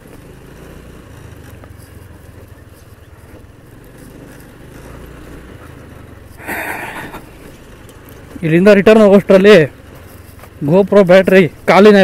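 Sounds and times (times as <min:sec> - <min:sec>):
scooter engine cruising: 0:00.0 - 0:12.0
tyres on dirt track: 0:00.0 - 0:12.0.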